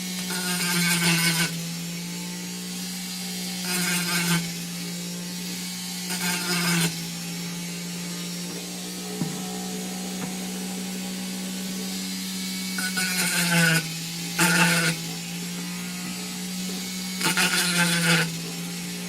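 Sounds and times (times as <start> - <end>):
rotary tool grinding plastic: 0.0 - 19.0
rotary tool motor whine: 0.0 - 19.0.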